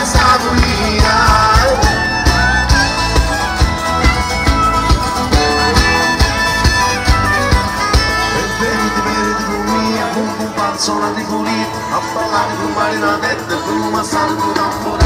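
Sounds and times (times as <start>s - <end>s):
guitar: 0.0s - 15.0s
fiddle melody: 0.1s - 15.0s.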